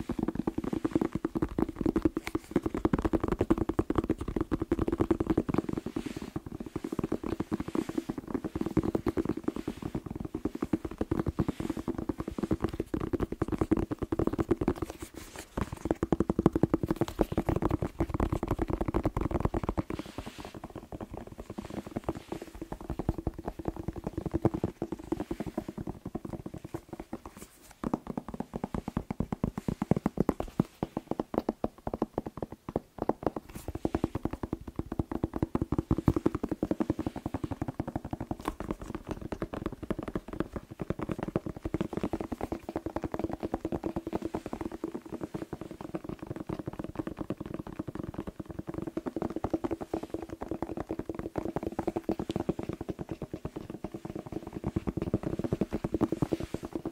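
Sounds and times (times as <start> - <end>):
fingers tapping on bell pepper: 0.0 - 56.9.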